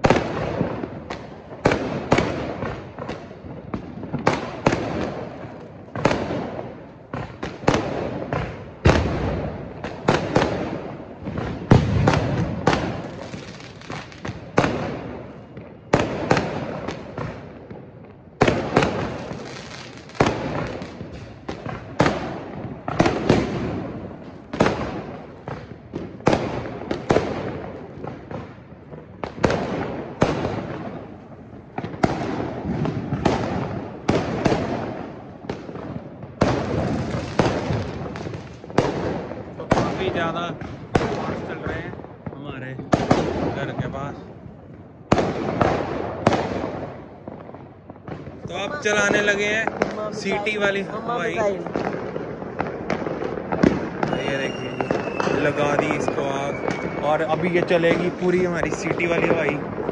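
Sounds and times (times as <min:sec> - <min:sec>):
fireworks bangs echoing: 0:00.0 - 0:59.9.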